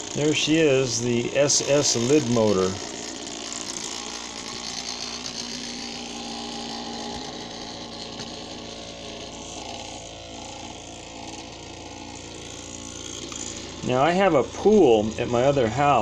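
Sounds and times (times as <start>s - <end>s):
electric motor spinning propeller: 0.0s - 16.0s.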